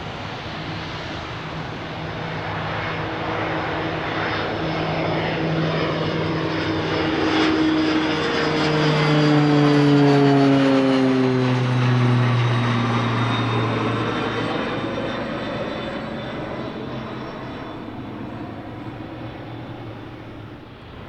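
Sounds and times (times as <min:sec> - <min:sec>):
aircraft engines approaching: 0:00.0 - 0:21.0.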